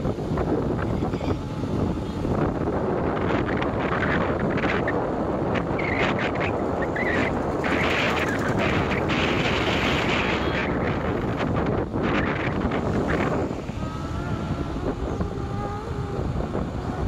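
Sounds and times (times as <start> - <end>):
road and engine rumble: 0.0 - 17.0
wind buffeting crackle: 0.0 - 17.0
wind rushing over microphone: 0.0 - 17.0.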